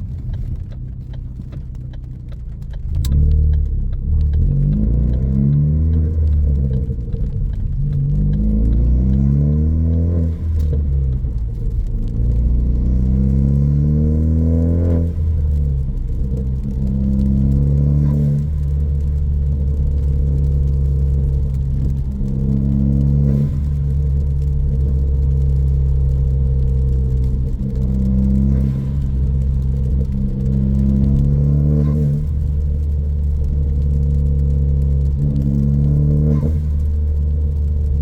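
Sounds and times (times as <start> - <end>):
car engine revving: 0.0 - 38.0
gear change: 0.0 - 38.0.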